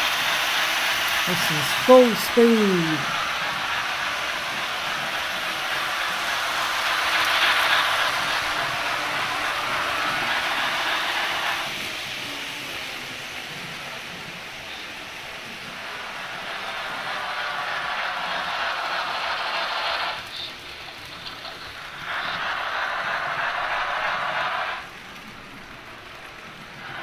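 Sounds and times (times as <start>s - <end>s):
model train wheels and motor rattling: 0.0s - 2.4s, 3.0s - 27.0s.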